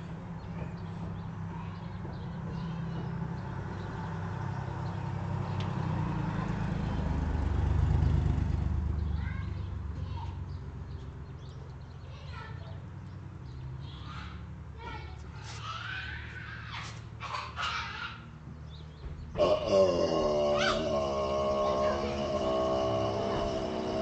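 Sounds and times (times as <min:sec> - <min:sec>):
vehicle engine rumble passing: 0:00.0 - 0:24.0.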